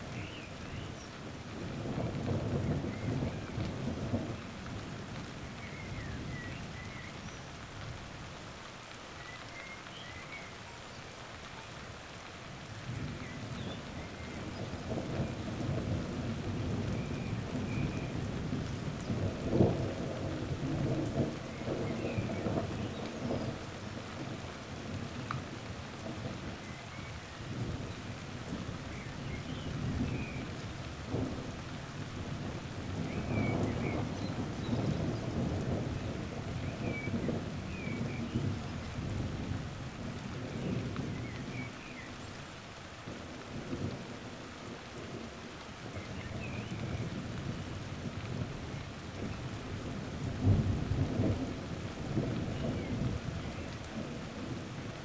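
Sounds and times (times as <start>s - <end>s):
thunder rumbling: 0.0s - 7.0s, 12.9s - 41.8s, 45.9s - 55.0s
steady rain: 0.0s - 55.0s.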